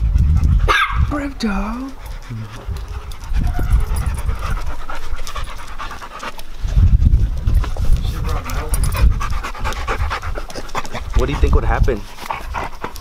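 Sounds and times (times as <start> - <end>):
dogs panting rapidly: 0.0 - 13.0.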